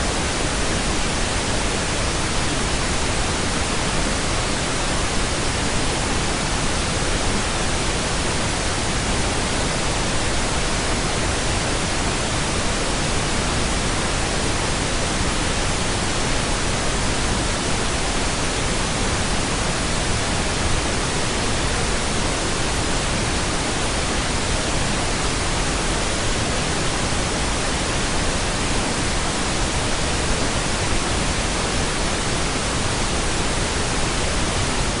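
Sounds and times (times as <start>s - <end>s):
steady pink noise hiss: 0.0s - 35.0s.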